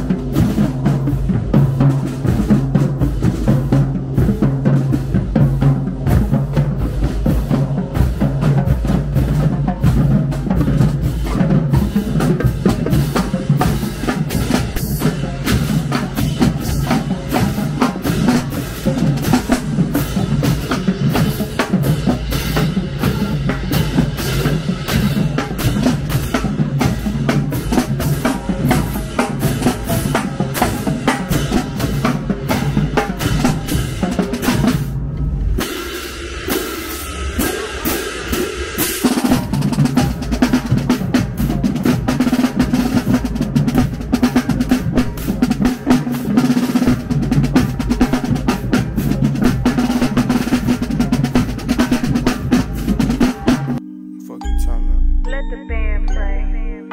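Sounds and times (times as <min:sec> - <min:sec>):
snare drum rolls: 0:00.0 - 0:53.8
tenor and bass drums: 0:00.0 - 0:53.8
cymbals: 0:00.0 - 0:56.1.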